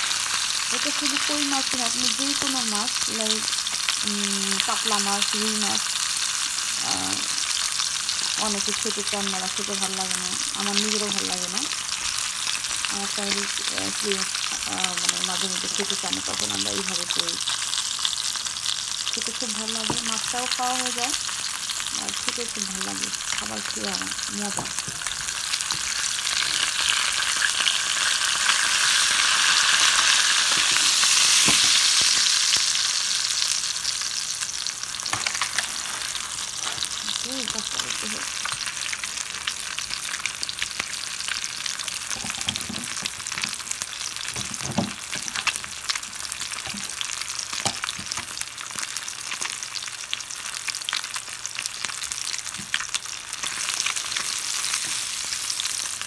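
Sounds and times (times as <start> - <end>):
fish sizzling in hot oil: 0.0 - 56.0.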